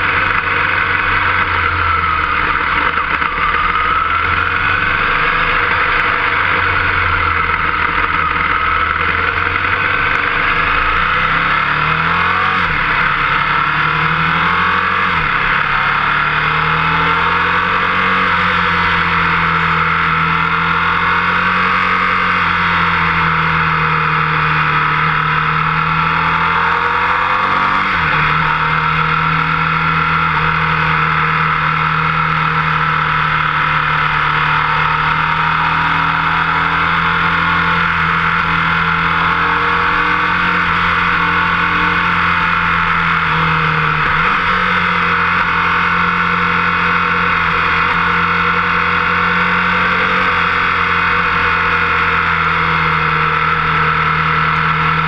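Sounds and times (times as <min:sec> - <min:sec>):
motorcycle engine running hard: 0:00.0 - 0:55.0.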